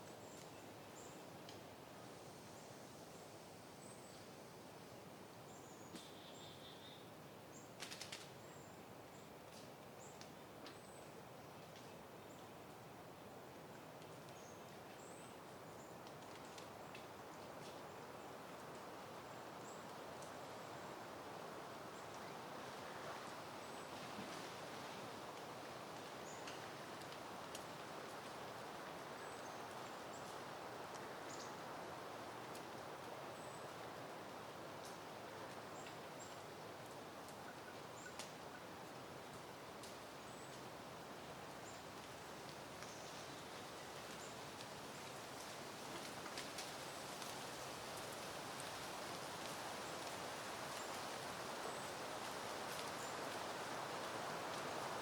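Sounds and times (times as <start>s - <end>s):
wind rustling through foliage: 0.0s - 55.0s.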